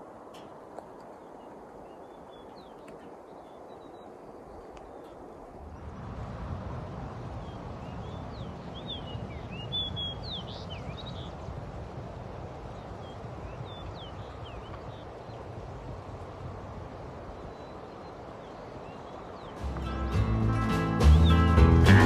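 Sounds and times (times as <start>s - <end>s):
birds chirping: 0.0s - 6.1s, 7.3s - 11.5s, 12.6s - 22.0s.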